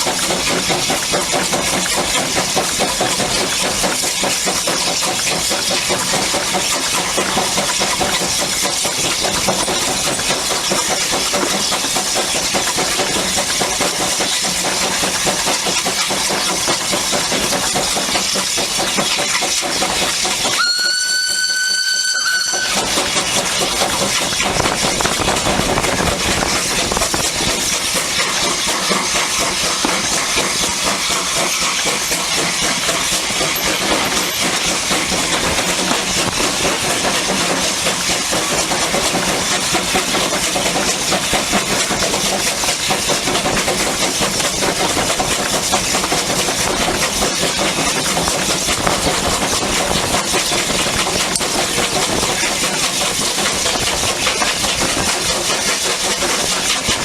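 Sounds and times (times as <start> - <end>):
hiss of steam: 0.0 - 56.9
steam locomotive working: 0.0 - 57.0.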